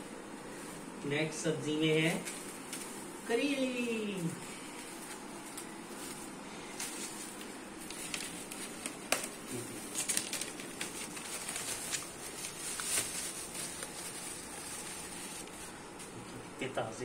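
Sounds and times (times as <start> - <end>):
plastic bag rustling and crinkling: 0.0 - 16.3.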